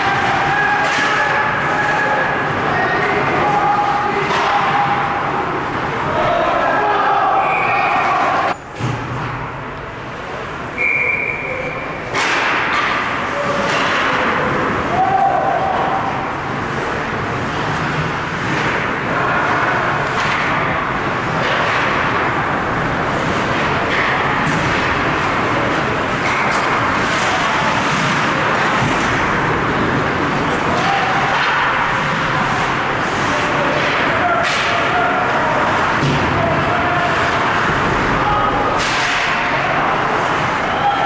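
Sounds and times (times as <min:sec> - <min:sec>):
ice hockey game noise: 0:00.0 - 0:41.0.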